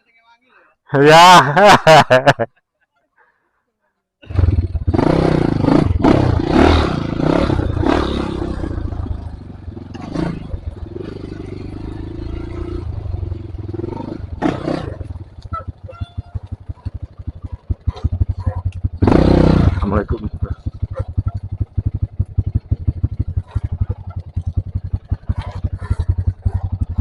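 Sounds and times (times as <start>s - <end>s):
motorcycle engine revving: 4.2s - 27.0s.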